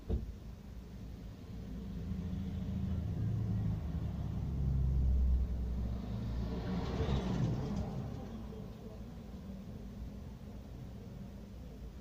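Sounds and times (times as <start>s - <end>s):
cars driving slowly past: 1.3s - 11.1s.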